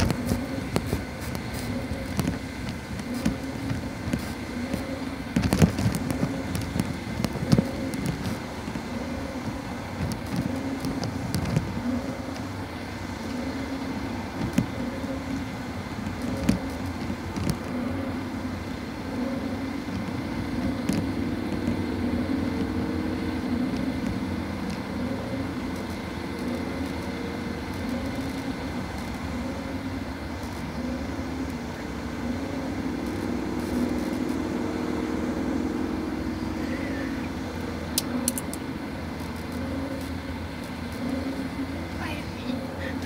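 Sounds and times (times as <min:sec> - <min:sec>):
car engine droning: 0:00.0 - 0:43.0.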